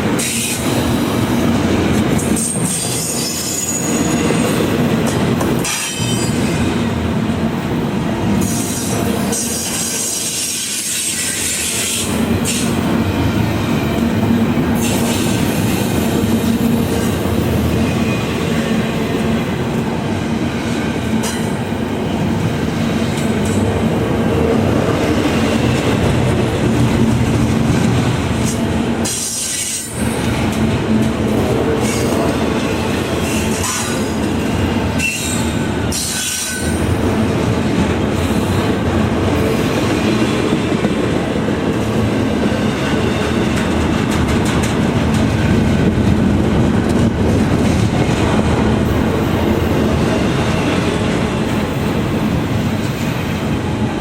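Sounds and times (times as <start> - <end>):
train wheels rushing on rails: 0.0 - 54.0.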